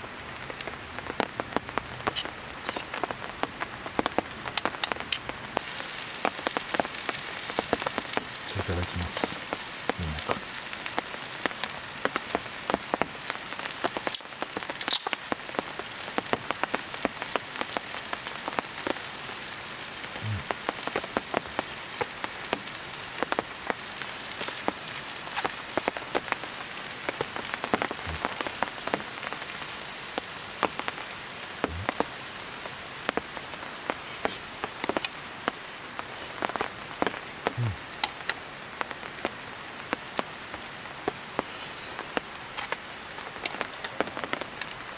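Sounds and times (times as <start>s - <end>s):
campfire crackling and popping: 0.0s - 44.9s
steady hiss: 0.0s - 44.9s.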